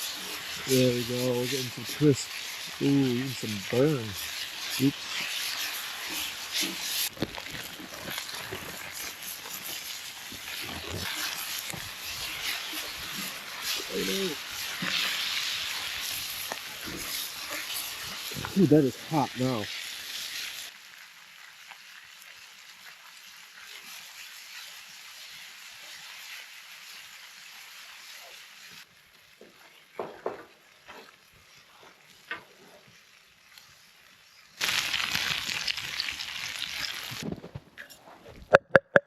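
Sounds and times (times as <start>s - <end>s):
food sizzling in a hot pan: 0.0s - 30.0s, 30.6s - 37.2s.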